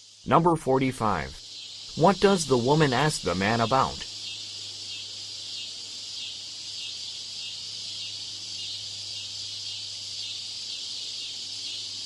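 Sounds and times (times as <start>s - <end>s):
high-pitched hiss: 0.0s - 12.0s
low electrical hum: 0.0s - 12.0s.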